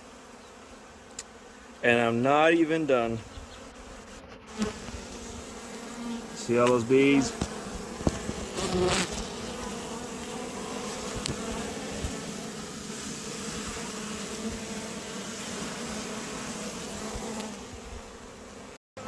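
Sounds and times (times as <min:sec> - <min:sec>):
bee swarm buzzing: 0:00.0 - 0:18.8.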